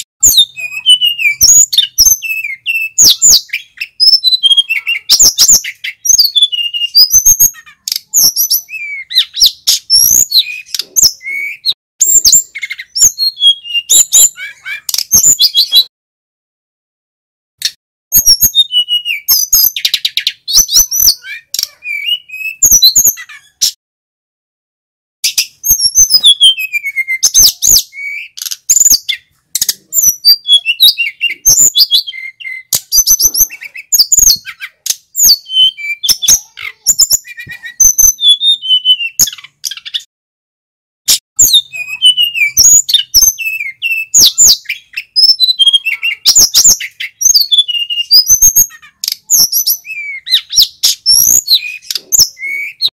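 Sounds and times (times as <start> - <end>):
bird singing high sweet whistles: 0.2 - 15.9, 18.1 - 23.2, 25.2 - 40.1, 41.4 - 52.9.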